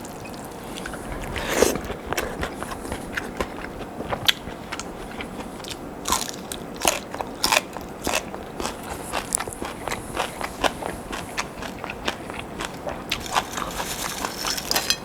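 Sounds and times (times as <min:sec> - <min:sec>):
person chewing crispy food: 0:00.0 - 0:15.0.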